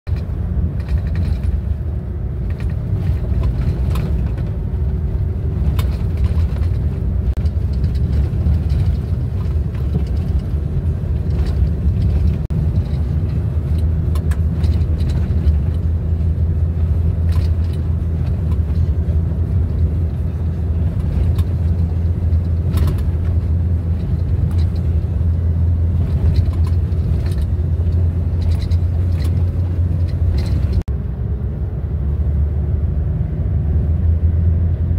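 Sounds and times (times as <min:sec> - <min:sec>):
light rattles in car cabin: 0:00.1 - 0:31.0
car rumbling on gravel: 0:00.1 - 0:34.9.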